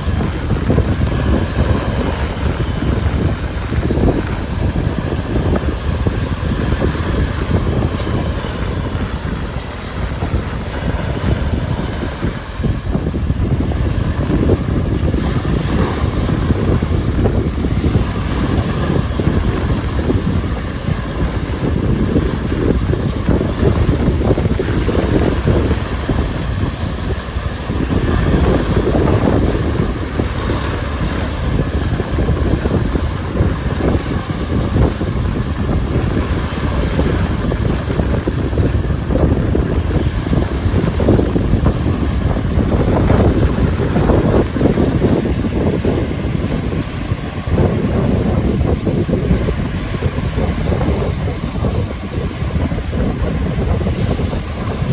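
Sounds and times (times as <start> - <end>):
waves breaking on shore: 0.0 - 54.9
wind buffeting microphone: 0.0 - 54.9.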